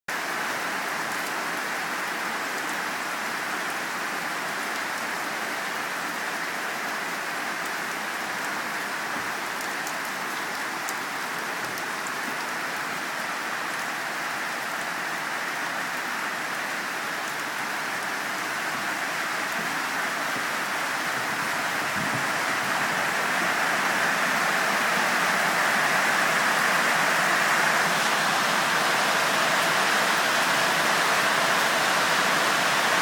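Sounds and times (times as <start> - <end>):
steady rain hiss: 0.1 - 33.0.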